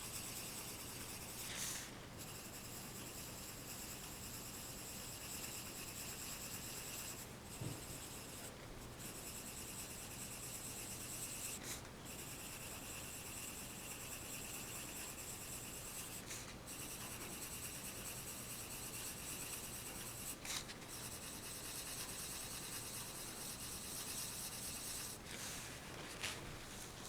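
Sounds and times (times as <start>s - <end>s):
pencil scratching on paper: 0.0s - 25.6s.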